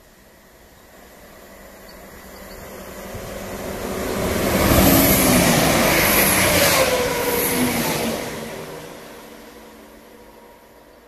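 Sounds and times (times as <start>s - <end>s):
diesel train passing: 0.0s - 11.0s.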